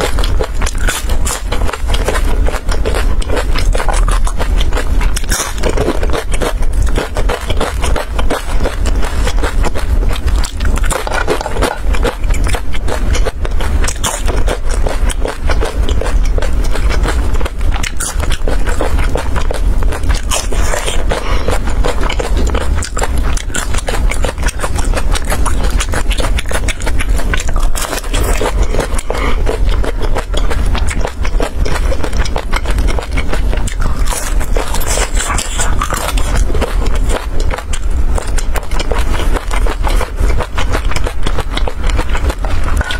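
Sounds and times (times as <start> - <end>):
crunching and chewing crisp food: 0.0 - 42.9
steady low hum: 0.0 - 42.9.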